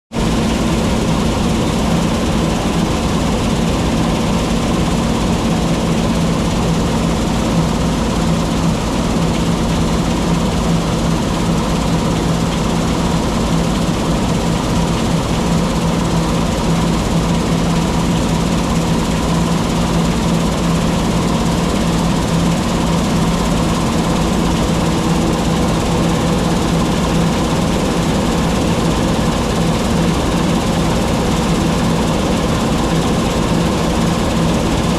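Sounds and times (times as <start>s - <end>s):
combine harvester engine hum: 0.2s - 34.9s.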